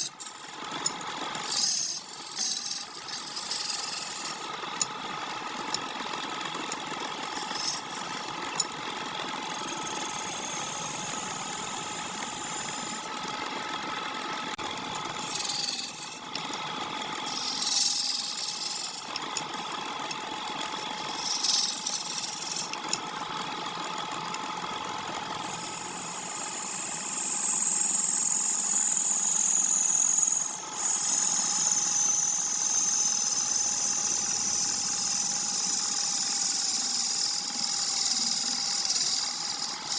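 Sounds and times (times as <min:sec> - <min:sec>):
wood lathe running: 0:00.0 - 0:13.1, 0:14.7 - 0:24.5, 0:25.1 - 0:39.9
turning tool cutting wood: 0:00.0 - 0:13.2, 0:14.6 - 0:23.3, 0:25.3 - 0:39.9.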